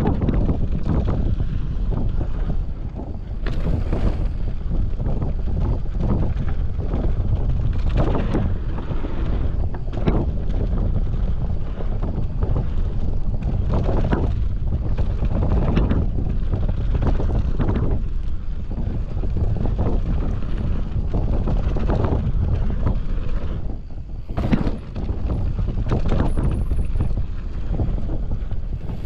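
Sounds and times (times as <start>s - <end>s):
bike clattering over bumps: 0.0s - 29.0s
tyres on dirt trail: 0.0s - 29.0s
wind buffeting microphone: 0.0s - 29.0s.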